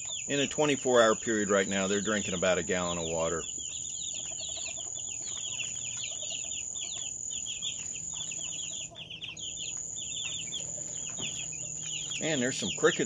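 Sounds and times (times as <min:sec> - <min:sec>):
chicks peeping: 0:00.0 - 0:13.0
cricket trill: 0:00.0 - 0:13.0.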